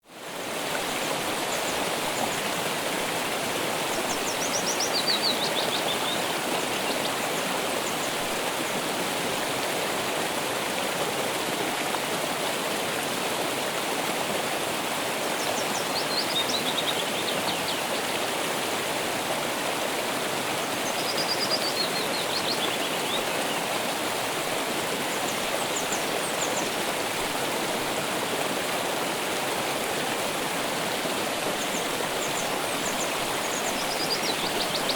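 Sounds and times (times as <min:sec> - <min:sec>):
stream rushing: 0:00.0 - 0:34.9.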